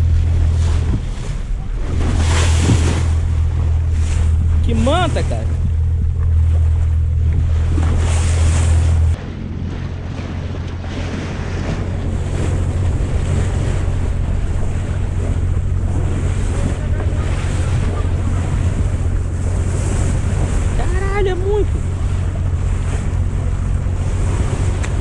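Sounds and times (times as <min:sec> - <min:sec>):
boat engine drone: 0:00.0 - 0:25.0
water rushing along hull: 0:00.0 - 0:25.0
wind buffeting microphone: 0:00.0 - 0:25.0.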